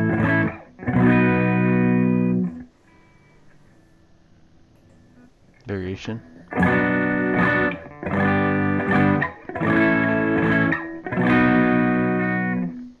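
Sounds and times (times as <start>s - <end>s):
distorted electric guitar chords: 0.0s - 4.0s, 6.0s - 13.0s.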